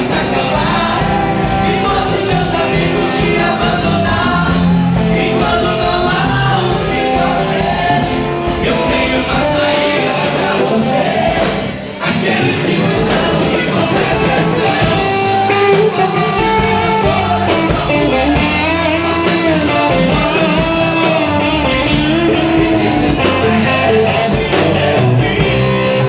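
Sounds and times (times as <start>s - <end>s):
gospel band music: 0.0s - 26.0s
guitar: 0.0s - 26.0s
steady drum beat: 0.0s - 26.0s.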